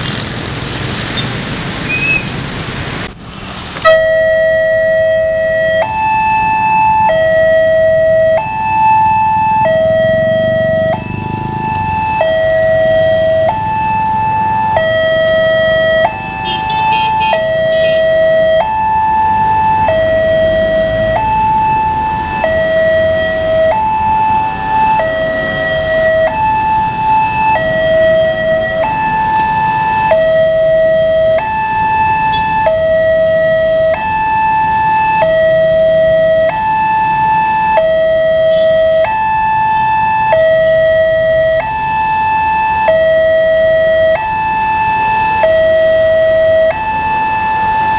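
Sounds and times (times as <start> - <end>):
level crossing two-tone alarm: 3.9 - 47.9.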